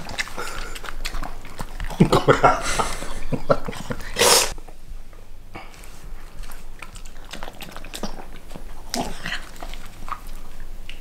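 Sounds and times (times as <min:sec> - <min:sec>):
dog eating wet smacking: 0:00.0 - 0:04.2, 0:05.8 - 0:11.0.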